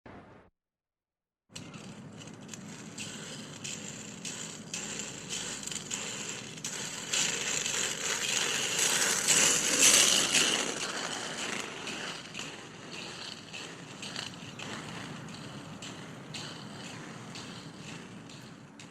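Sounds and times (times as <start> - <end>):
roller skate wheels rolling: 1.6 - 18.9
small clicks and rattles: 1.6 - 18.9.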